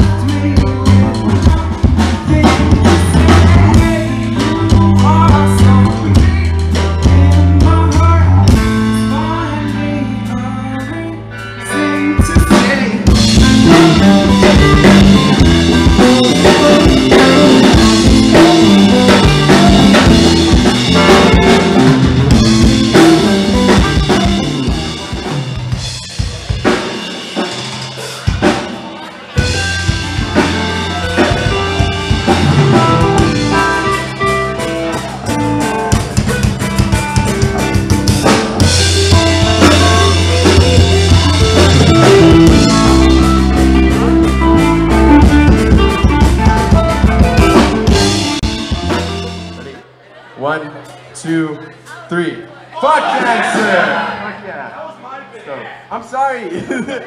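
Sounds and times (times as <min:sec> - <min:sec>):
drum kit: 0:00.0 - 0:49.8
electric guitar: 0:00.0 - 0:49.8
bass guitar: 0:00.0 - 0:51.1.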